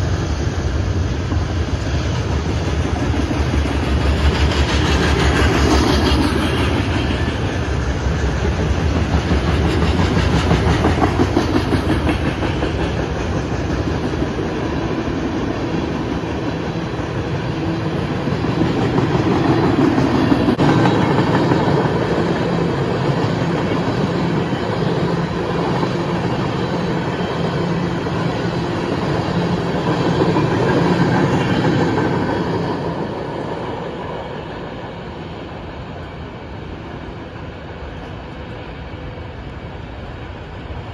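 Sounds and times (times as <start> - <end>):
freight train wheels rumbling on rails: 0.0 - 40.9.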